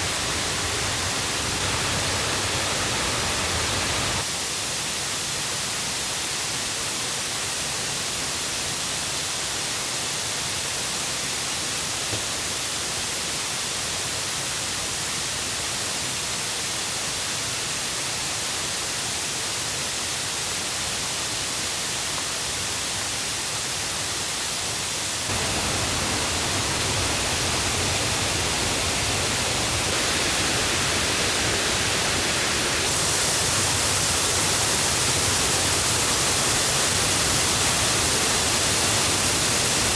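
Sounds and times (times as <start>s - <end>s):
rushing river and waterfall: 0.0s - 39.9s.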